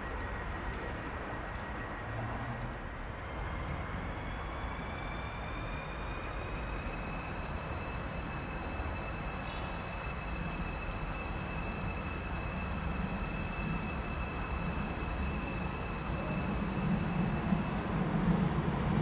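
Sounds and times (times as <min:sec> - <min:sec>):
electric train whine: 0:00.0 - 0:19.0
train rolling rumble: 0:00.0 - 0:19.0.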